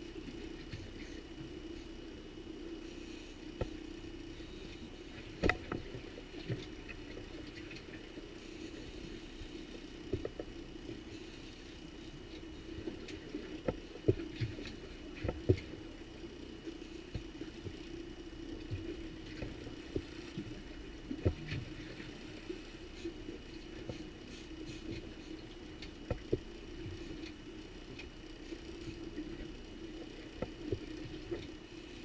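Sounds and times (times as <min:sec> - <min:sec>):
outboard motor droning: 0:00.0 - 0:32.0.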